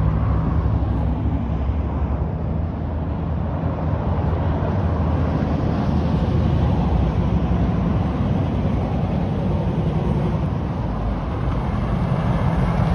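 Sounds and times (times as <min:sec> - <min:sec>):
car engine approaching: 0:00.0 - 0:12.9.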